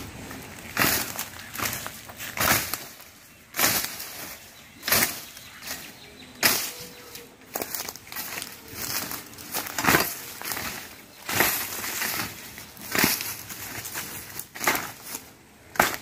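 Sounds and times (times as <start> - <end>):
rustling of brush: 0.0 - 16.0
blade chopping through brush: 0.6 - 16.0.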